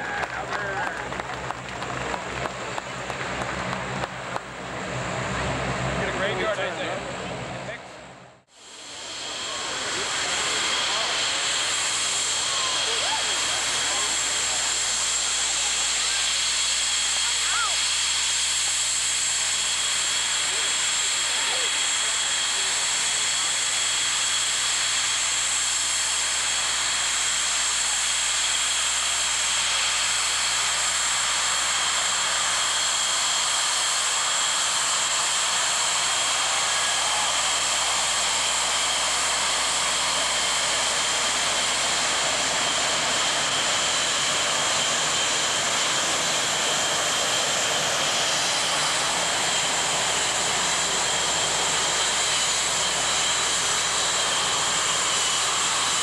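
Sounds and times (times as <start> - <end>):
high-pitched jet whine: 0.0 - 56.0
jet engines roaring: 0.0 - 56.0.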